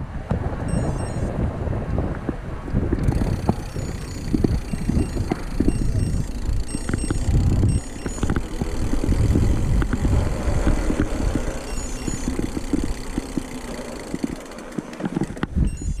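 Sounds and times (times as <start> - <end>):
bike tyres rumbling on trail: 0.0 - 16.0
bike knocking and rattling: 2.1 - 16.0.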